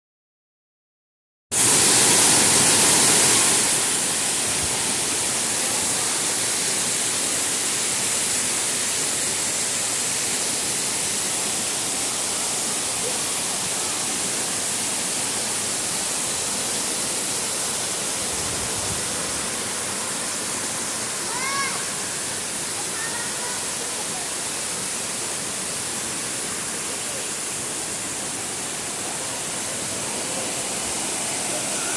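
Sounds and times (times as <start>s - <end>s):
waterfall rushing: 1.6s - 31.9s.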